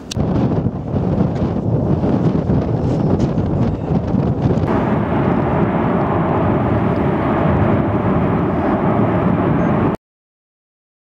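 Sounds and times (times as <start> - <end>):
volcano roaring: 0.2 - 10.0.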